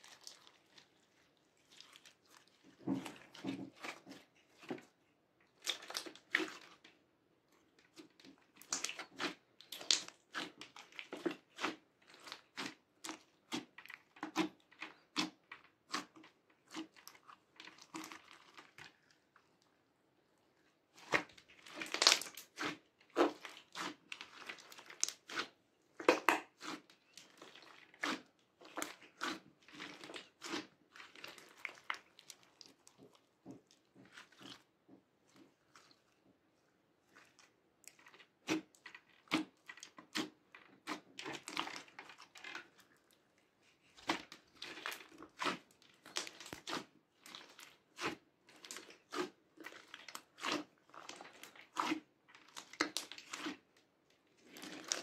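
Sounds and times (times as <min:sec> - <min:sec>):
slime wet sticky crackles: 0:00.0 - 0:19.7, 0:20.9 - 0:36.2, 0:37.0 - 0:55.0.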